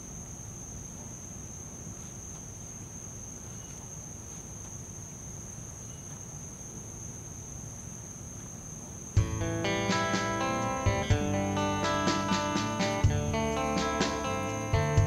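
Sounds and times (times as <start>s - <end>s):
crickets singing: 0.0s - 15.0s.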